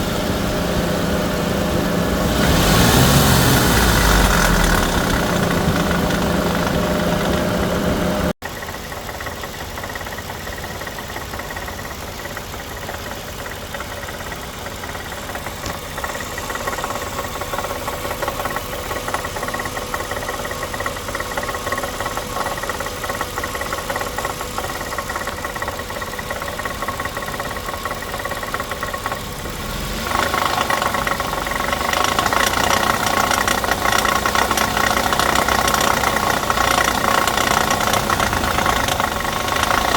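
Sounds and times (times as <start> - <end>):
car engine idling: 0.0 - 39.9
exhaust knocking rattle: 0.0 - 39.9.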